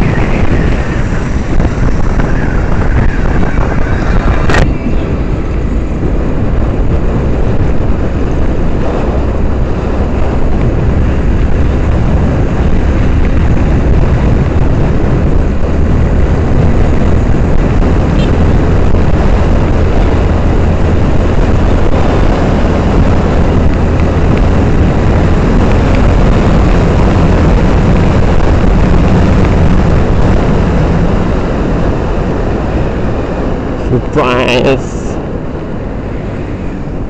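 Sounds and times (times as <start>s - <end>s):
motorcycle engine and wind rush: 0.0s - 37.0s.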